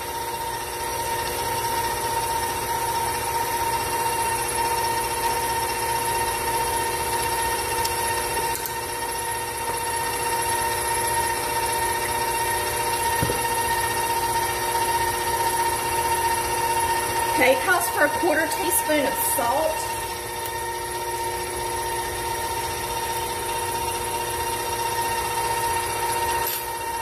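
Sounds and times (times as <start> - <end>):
electric mixer motor whining: 0.0 - 27.0.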